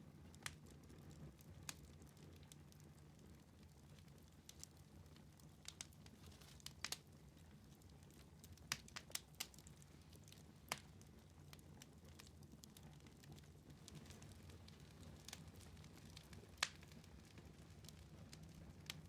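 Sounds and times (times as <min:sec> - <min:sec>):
low rumble of flames: 0:00.0 - 0:19.0
wood fire pops and snaps: 0:00.2 - 0:19.0.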